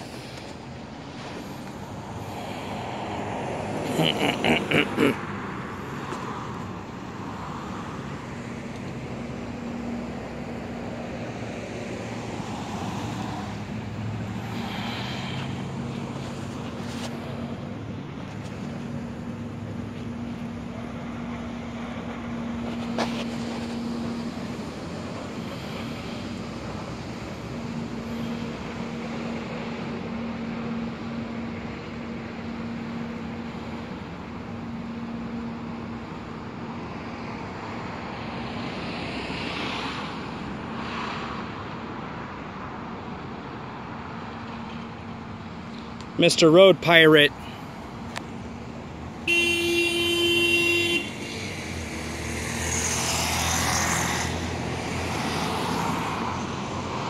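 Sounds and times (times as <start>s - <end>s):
vehicle passing by: 0.0s - 34.0s, 43.9s - 57.0s
low engine hum: 0.0s - 57.0s
road traffic rumble: 0.0s - 57.0s.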